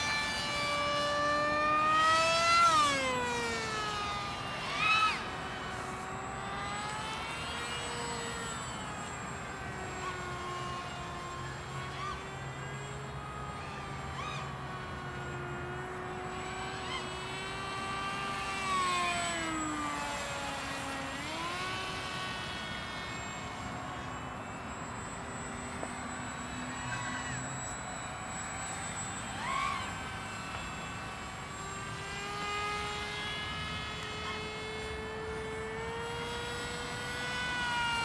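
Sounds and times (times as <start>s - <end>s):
electric model plane motor whining: 0.0s - 38.0s.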